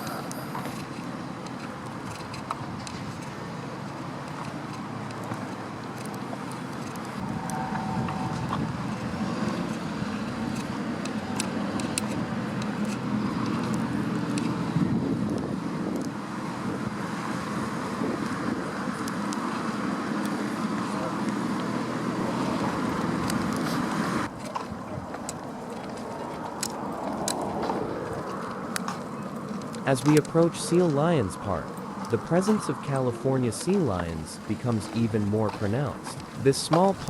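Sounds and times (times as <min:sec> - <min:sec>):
passing cars rumbling: 0:00.0 - 0:37.0.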